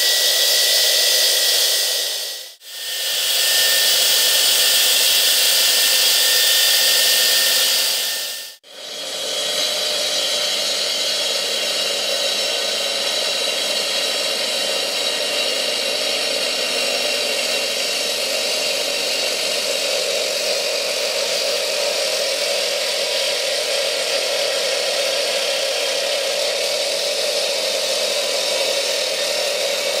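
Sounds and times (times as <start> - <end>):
cut-off saw cutting concrete: 0.0 - 30.0.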